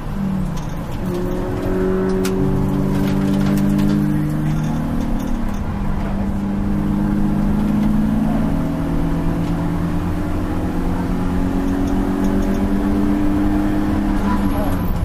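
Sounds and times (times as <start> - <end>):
race car engine pulling hard: 0.0 - 15.0
road and tyre rumble: 0.0 - 15.0.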